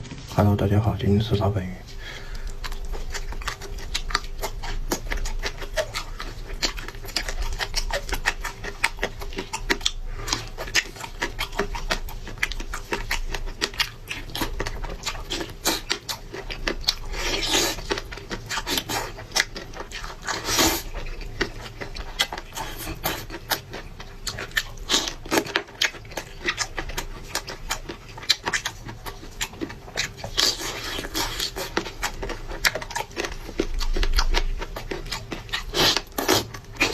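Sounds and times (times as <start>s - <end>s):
person chewing and lip-smacking: 2.0s - 36.9s.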